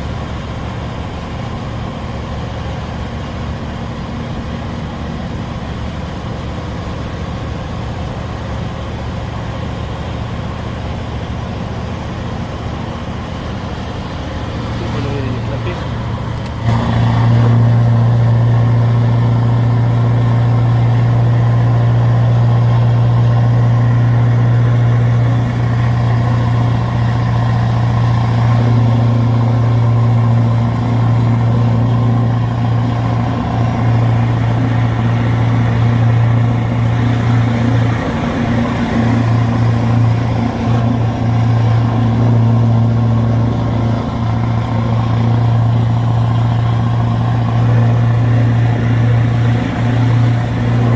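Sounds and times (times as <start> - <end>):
truck engine droning under load: 0.0 - 50.9.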